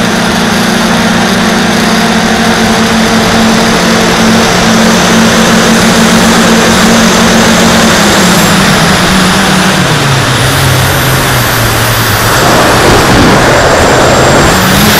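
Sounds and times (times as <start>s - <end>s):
heavy wind noise: 0.0s - 14.9s
quadcopter motors and propellers: 0.0s - 14.9s.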